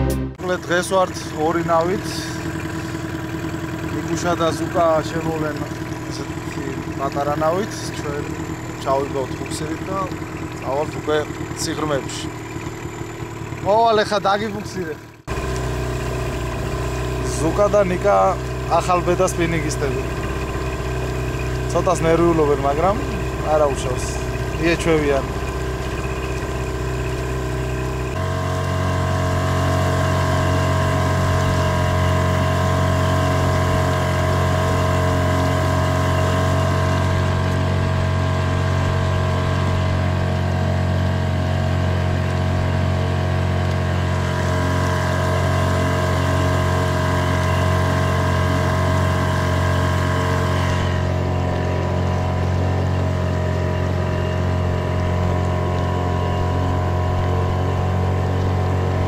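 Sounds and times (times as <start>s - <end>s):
boat motor running: 0.0s - 59.0s.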